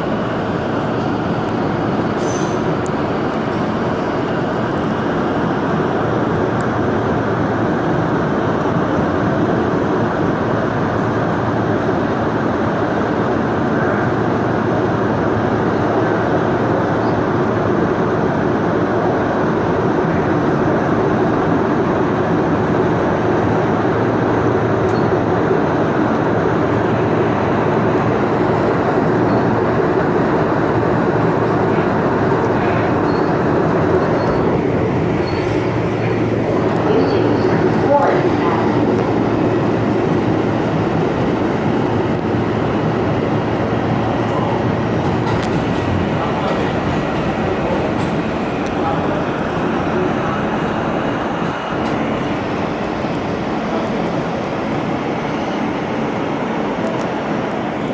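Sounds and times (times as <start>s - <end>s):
subway wheels rumbling on rails: 0.0s - 57.9s.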